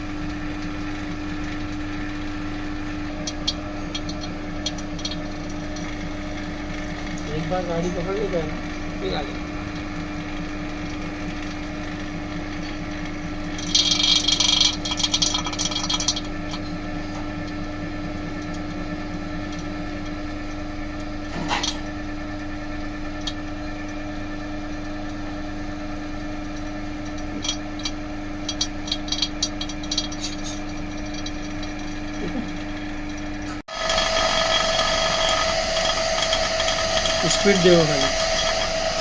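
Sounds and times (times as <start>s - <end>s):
vacuum pump motor hum: 0.0s - 39.0s.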